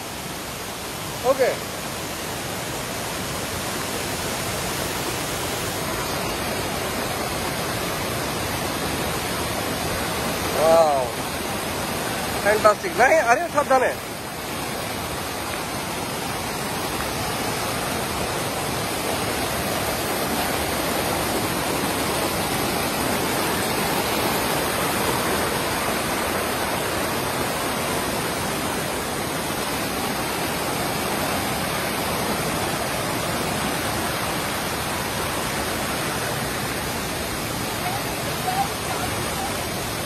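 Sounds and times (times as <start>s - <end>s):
river water tumbling over stones: 0.1s - 40.0s.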